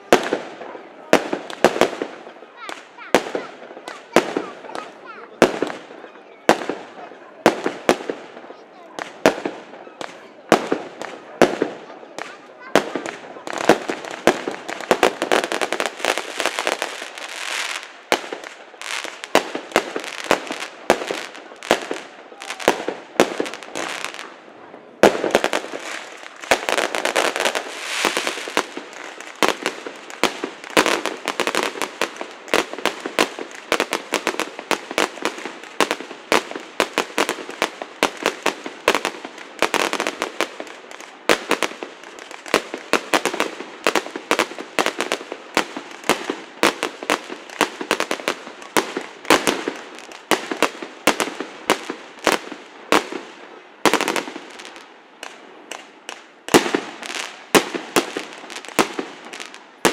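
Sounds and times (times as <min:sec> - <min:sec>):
fireworks banging: 0:00.0 - 0:59.9
fireworks crackling: 0:00.0 - 0:59.9.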